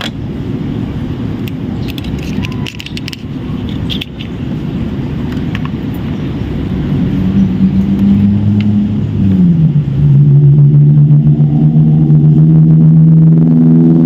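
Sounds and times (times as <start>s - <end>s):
low rumble of road traffic: 0.0s - 14.0s
vehicle engine hum: 0.0s - 14.0s.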